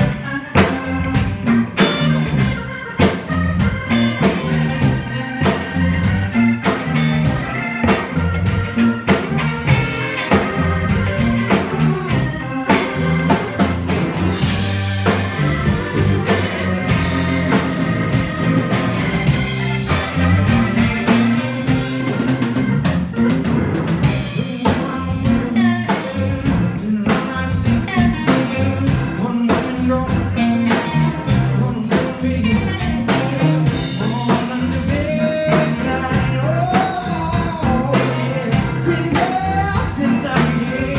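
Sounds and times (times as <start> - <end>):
bass: 0.0 - 40.9
drum kit beat: 0.0 - 40.9
electric guitar: 0.0 - 40.9
organ: 0.0 - 40.9.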